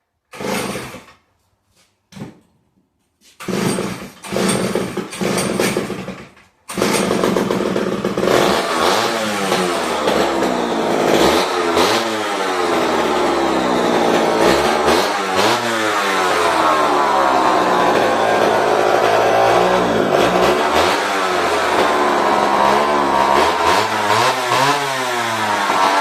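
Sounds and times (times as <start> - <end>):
chainsaw engine revving: 0.3 - 1.0, 3.4 - 26.0.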